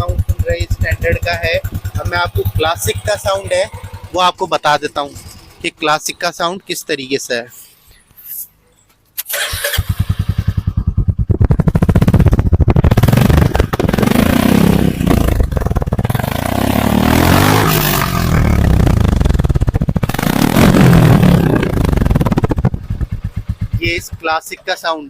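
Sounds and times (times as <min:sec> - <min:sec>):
motorcycle exhaust revving: 0:00.0 - 0:05.9, 0:09.7 - 0:24.8.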